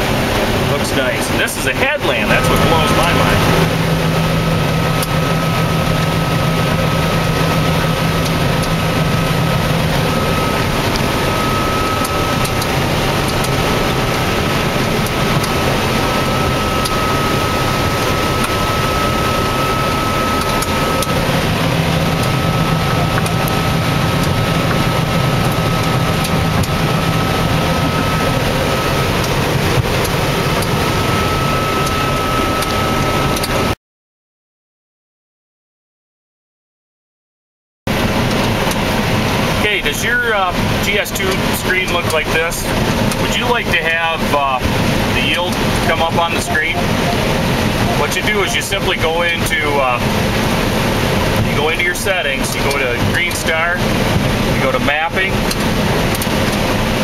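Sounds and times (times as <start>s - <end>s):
combine harvester engine and machinery: 0.0s - 33.8s, 37.9s - 57.0s
high machinery whine: 0.0s - 33.8s, 37.9s - 57.0s.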